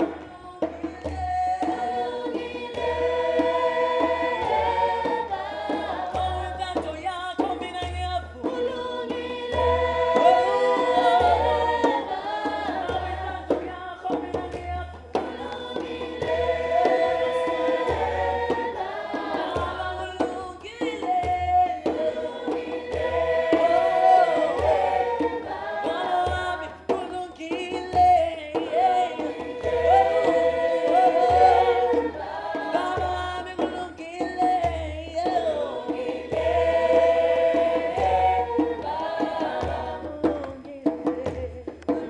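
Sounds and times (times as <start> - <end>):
djembe hand drums: 0.0 - 42.0
group singing in harmony: 0.0 - 42.0.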